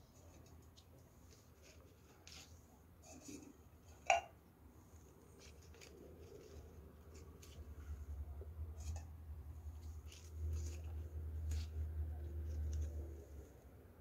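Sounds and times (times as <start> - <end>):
plant cuttings rustling: 0.0 - 4.0, 4.8 - 13.6.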